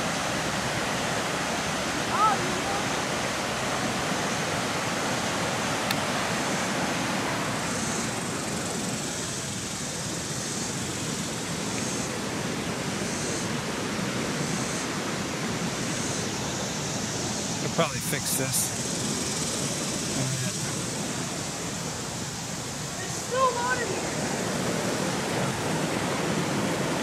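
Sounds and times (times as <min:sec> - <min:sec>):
floodwater rushing over ledge: 0:00.0 - 0:27.0.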